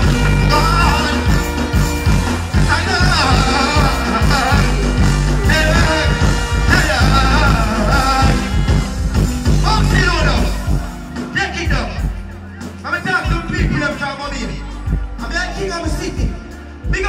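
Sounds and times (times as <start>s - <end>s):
heavy bass line: 0.0s - 17.0s
man singing: 0.0s - 17.0s.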